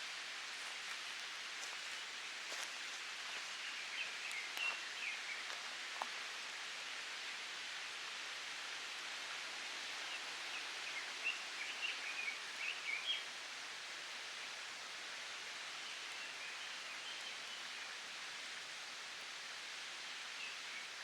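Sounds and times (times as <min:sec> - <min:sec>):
steady outdoor hiss: 0:00.0 - 0:21.0.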